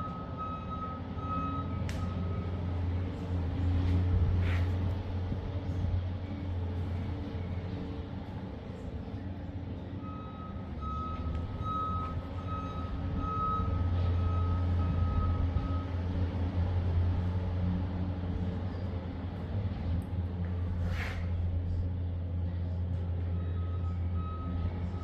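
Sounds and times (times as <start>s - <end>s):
engine low rumble: 0.0s - 25.0s.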